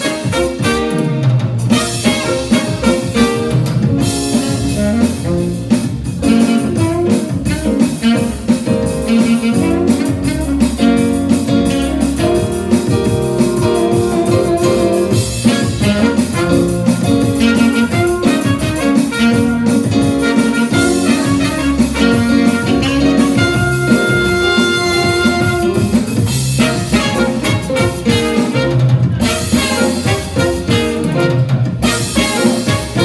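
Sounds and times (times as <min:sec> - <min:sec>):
drum kit: 0:00.0 - 0:33.0
jazz blues band playing: 0:00.0 - 0:33.0
saxophone: 0:00.0 - 0:33.0
trumpet: 0:00.0 - 0:33.0.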